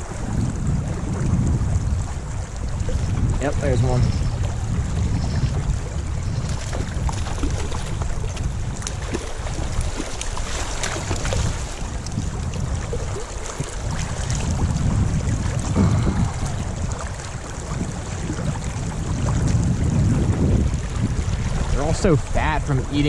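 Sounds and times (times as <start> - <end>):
creek water rushing: 0.0 - 23.0
wind buffeting microphone: 0.0 - 23.0.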